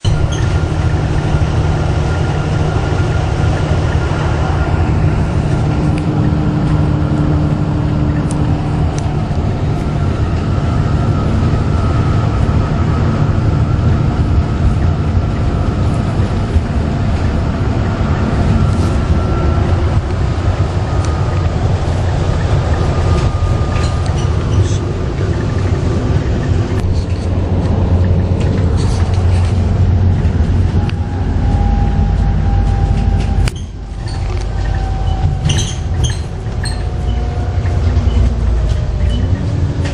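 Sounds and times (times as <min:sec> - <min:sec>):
moving vehicle rumble: 0:00.0 - 0:39.9.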